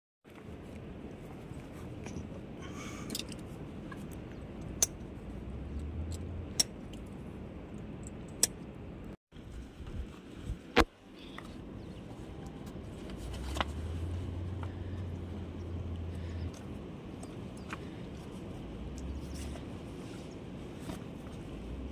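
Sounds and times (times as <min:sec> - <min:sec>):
steady low rumble: 0:00.3 - 0:21.9.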